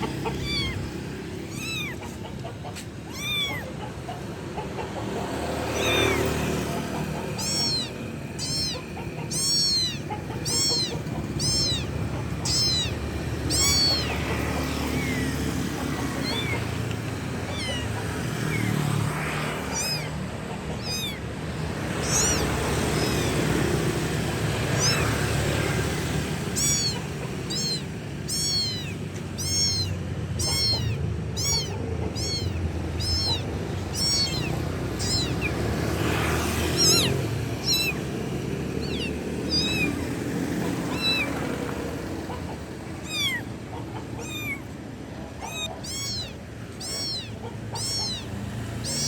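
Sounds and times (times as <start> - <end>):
kitten meowing: 0.0 - 4.2, 5.6 - 49.0.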